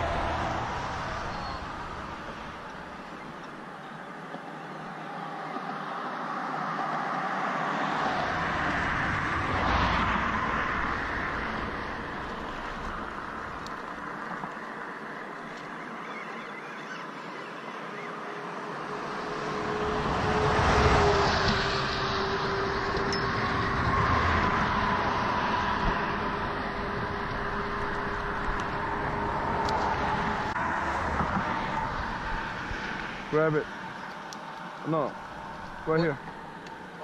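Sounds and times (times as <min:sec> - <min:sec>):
road traffic hum: 0:00.0 - 0:37.0.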